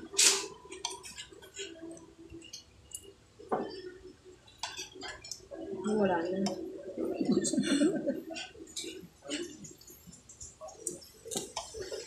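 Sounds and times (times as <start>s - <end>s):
faint room murmur: 0.0s - 12.0s.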